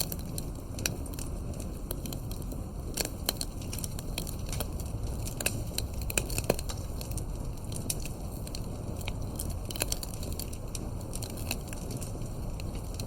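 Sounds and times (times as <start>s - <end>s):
steady low rumble: 0.0s - 13.0s
wood fire crackling and popping: 0.0s - 13.0s.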